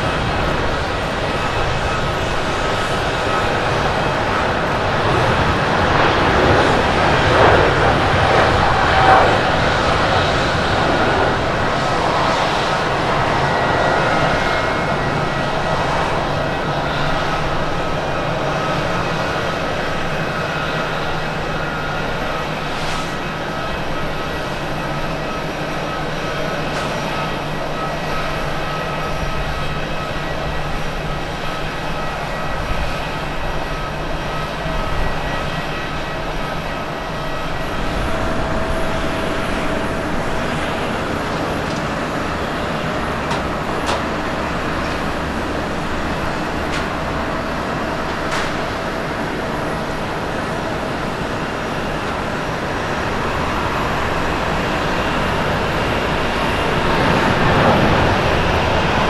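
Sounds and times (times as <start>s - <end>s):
airliner rolling on runway: 0.0s - 59.0s
jet engine rumble: 0.0s - 59.0s
jet engine whining tones: 0.0s - 59.0s.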